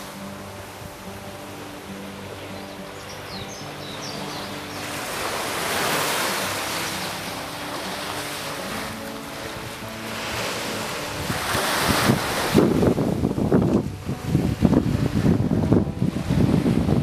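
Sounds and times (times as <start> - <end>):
soft background music: 0.0 - 17.0
surf washing onto beach: 0.0 - 17.0.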